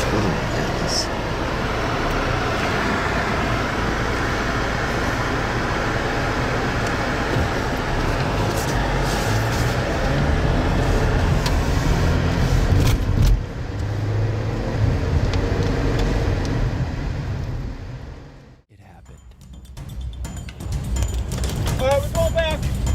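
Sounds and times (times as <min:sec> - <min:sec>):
vehicle rumbling in storm wind: 0:00.0 - 0:18.6.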